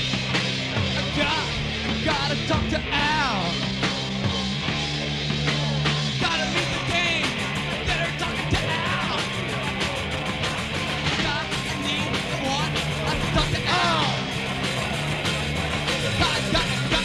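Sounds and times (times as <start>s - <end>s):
drum kit: 0.0s - 17.0s
low bass notes: 0.0s - 17.0s
punk rock band playing: 0.0s - 17.0s.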